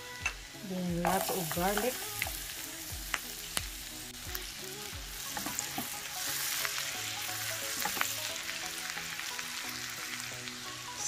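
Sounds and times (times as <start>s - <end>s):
garlic sizzling in butter: 0.0s - 11.0s.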